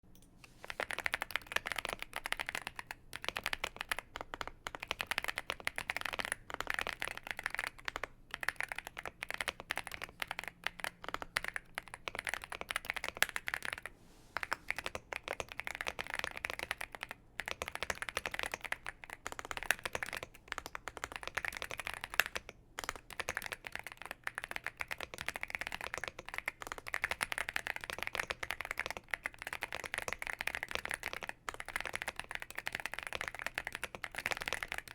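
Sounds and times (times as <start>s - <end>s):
fast typing on mechanical keyboard: 0.6s - 34.9s.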